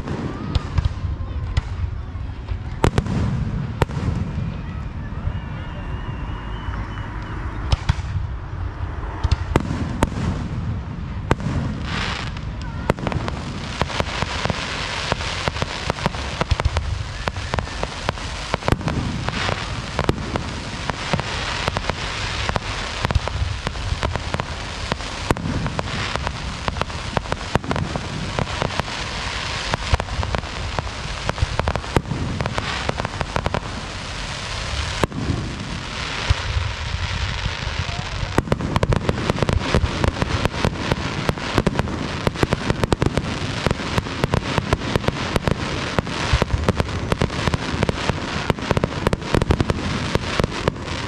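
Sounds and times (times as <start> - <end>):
continuous hiss: 0.0 - 51.0.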